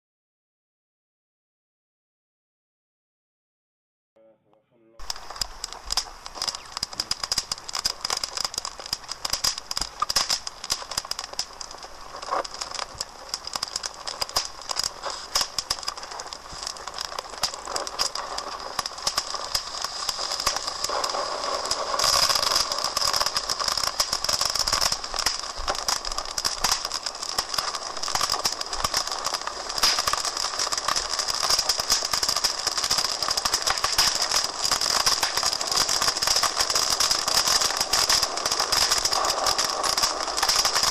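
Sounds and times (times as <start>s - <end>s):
wood fire crackling and popping: 5.0s - 40.9s.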